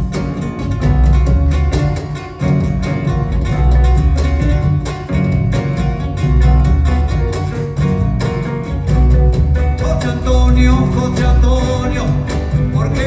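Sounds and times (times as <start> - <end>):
plucked guitars: 0.0 - 13.0
rhythmic bass line: 0.0 - 13.0.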